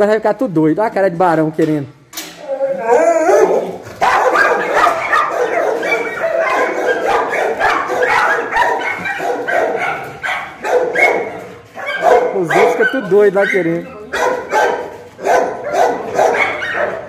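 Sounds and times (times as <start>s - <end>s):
dogs barking and yelping: 2.4s - 17.0s.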